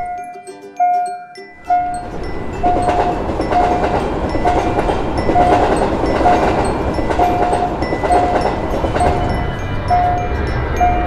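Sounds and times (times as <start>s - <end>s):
crossing warning signal tones: 0.0s - 11.0s
train wheels rumbling on rails: 1.7s - 11.0s.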